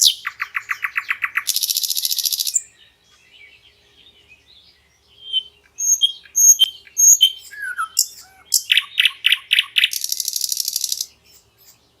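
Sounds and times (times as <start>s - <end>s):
nightingale singing: 0.0s - 12.0s.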